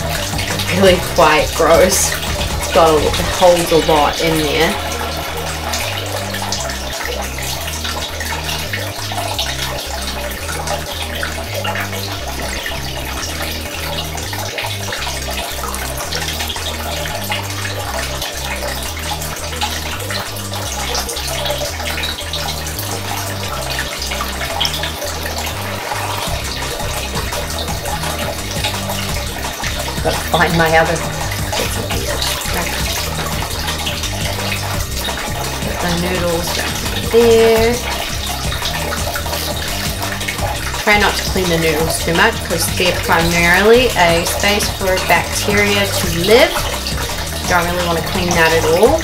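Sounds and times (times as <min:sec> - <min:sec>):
water sloshing and splashing: 0:00.0 - 0:49.0.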